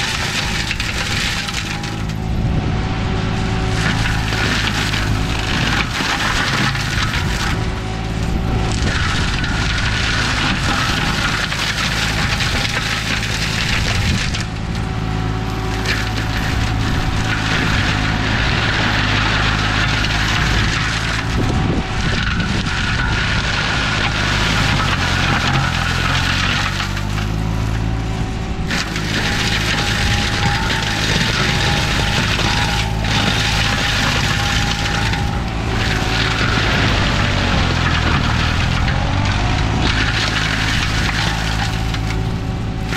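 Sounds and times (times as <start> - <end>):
mower engine running: 0.0 - 42.9
mulcher shredding branches: 0.0 - 42.9.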